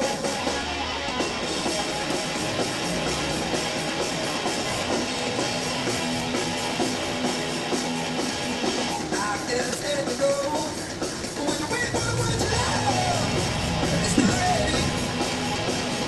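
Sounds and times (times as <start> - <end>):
drum kit: 0.0 - 16.0
electric guitar: 0.0 - 16.0
rock music: 0.0 - 16.0.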